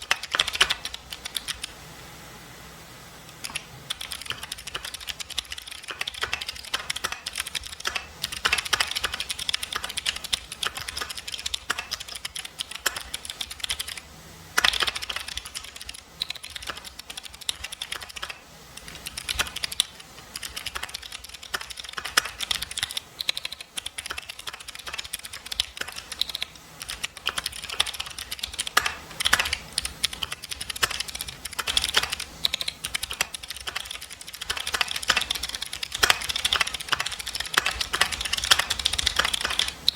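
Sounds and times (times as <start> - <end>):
mechanical keyboard typing: 0.0 - 1.8, 3.3 - 39.9.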